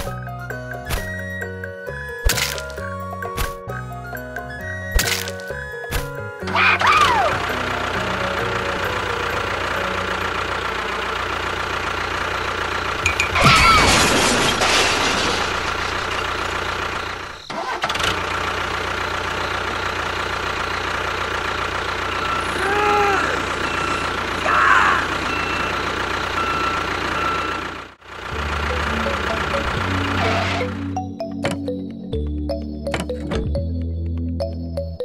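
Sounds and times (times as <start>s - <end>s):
tractor engine running: 0.0s - 34.6s.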